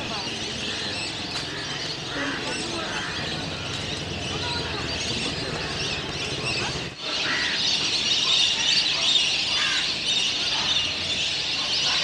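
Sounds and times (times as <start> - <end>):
ducks calling: 0.0 - 12.0.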